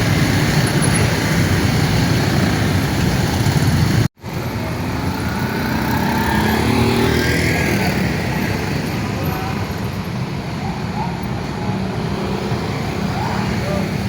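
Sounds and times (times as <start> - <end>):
motorcycles and cars passing: 0.0 - 14.0.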